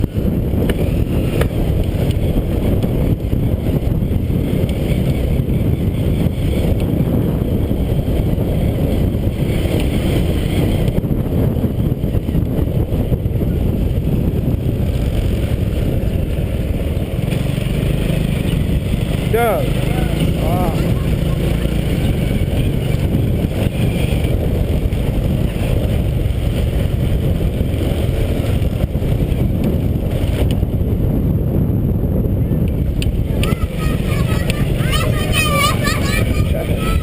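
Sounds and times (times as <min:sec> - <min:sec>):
motorcycle engine rumble: 0:00.0 - 0:37.0
wind noise on microphone: 0:00.0 - 0:37.0.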